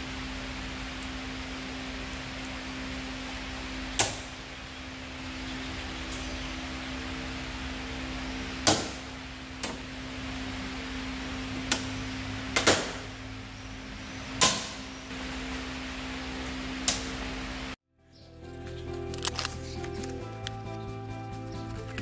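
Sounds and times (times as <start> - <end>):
steady tonal hum: 0.0 - 22.0.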